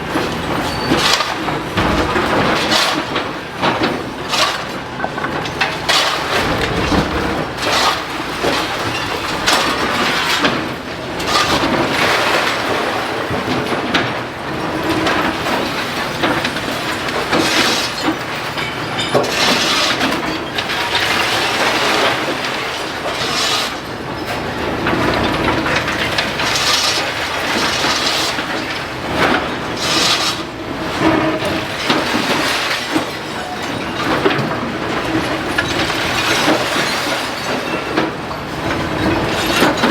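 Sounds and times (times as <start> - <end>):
building crashing and grinding: 0.0 - 39.9.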